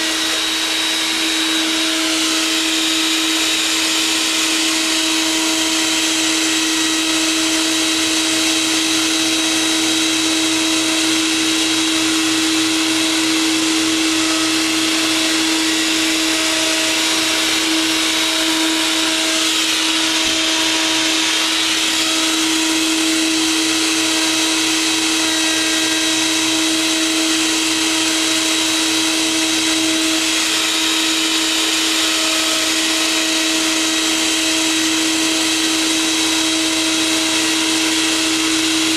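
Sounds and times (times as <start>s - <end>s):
wood router whining: 0.0s - 38.9s.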